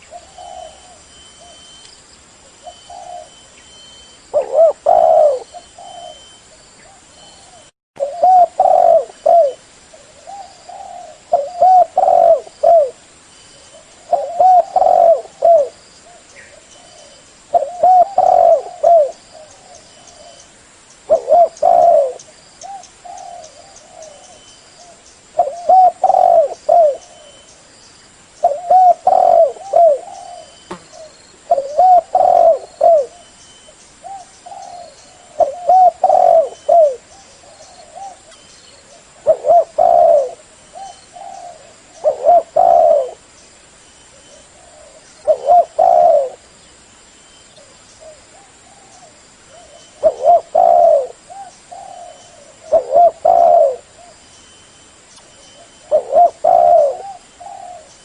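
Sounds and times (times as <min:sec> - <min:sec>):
dove cooing: 0:00.0 - 0:01.8, 0:02.5 - 0:13.0, 0:13.6 - 0:20.4, 0:21.1 - 0:27.5, 0:28.4 - 0:33.4, 0:34.0 - 0:43.3, 0:44.1 - 0:46.5, 0:47.6 - 0:54.2, 0:55.4 - 0:58.0.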